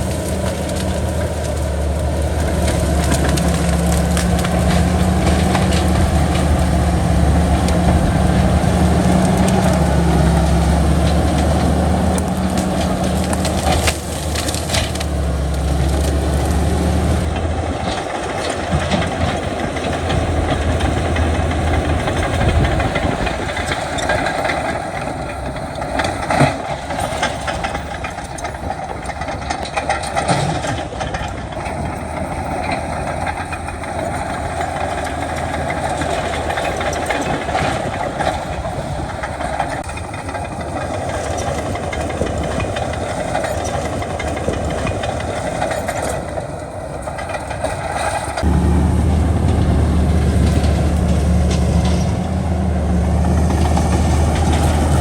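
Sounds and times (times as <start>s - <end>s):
stone and soil crunching: 0.0s - 46.4s, 47.0s - 55.0s
diesel machinery engine hum: 0.0s - 55.0s
rumbling: 0.0s - 55.0s.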